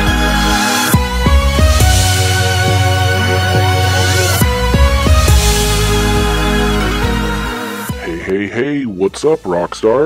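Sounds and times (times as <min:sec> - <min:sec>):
electronic music with heavy bass: 0:00.0 - 0:08.4.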